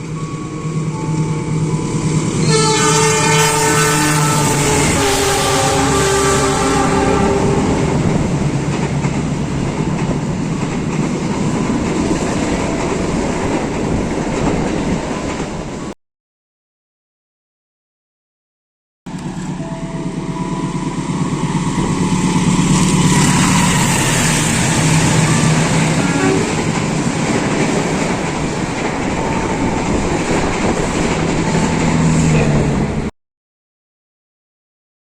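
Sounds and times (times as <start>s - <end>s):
train passing: 0.0s - 15.9s, 19.1s - 33.1s.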